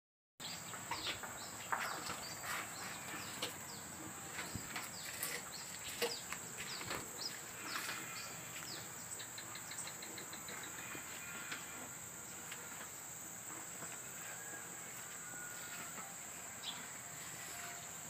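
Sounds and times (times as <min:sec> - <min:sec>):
insect drone: 0:00.7 - 0:18.0.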